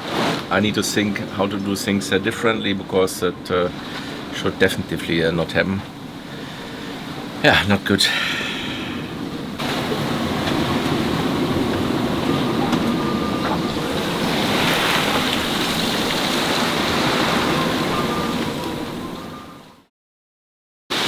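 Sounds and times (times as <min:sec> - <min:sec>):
rush of wind and sea: 0:00.0 - 0:19.8
wind buffeting microphone: 0:00.5 - 0:19.8.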